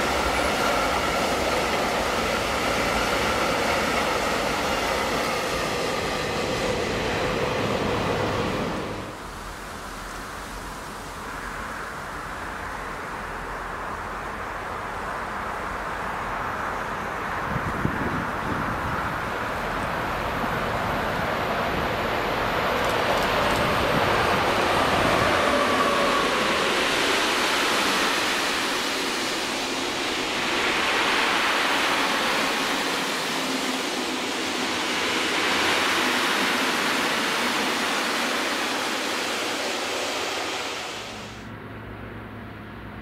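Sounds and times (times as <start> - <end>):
freight train wheels on rails: 0.0 - 9.8, 14.0 - 41.5.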